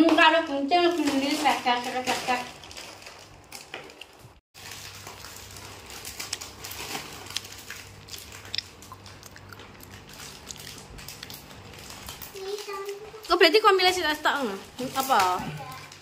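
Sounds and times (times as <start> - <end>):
small clicks and crinkling: 0.8 - 16.0.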